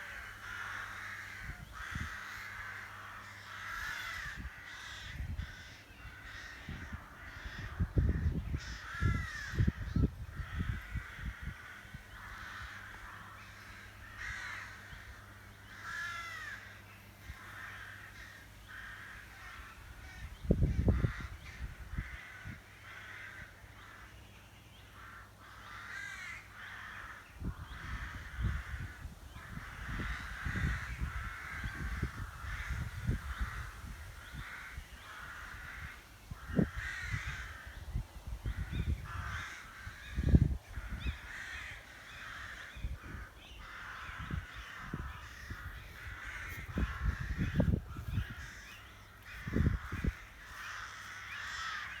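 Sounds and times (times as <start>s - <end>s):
rooks cawing: 0.0s - 52.0s.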